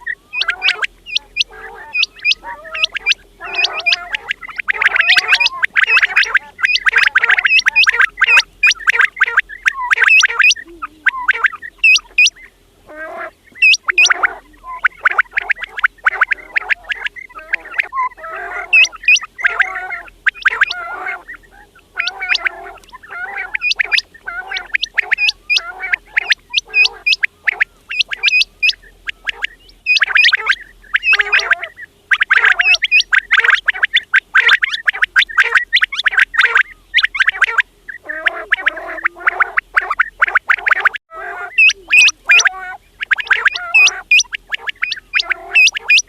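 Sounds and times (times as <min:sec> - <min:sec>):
quails calling: 0:00.0 - 0:46.0.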